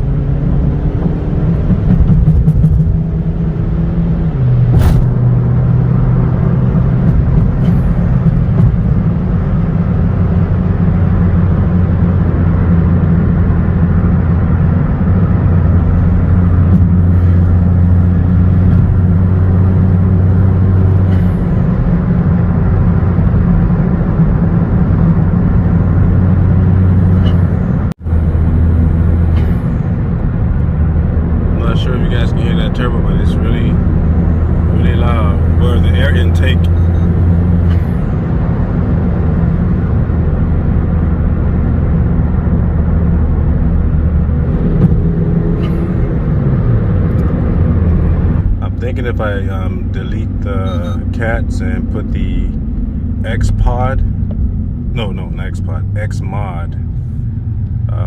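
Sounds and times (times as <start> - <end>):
car engine accelerating: 0.0 - 58.0
loud turbo whoosh: 0.0 - 58.0.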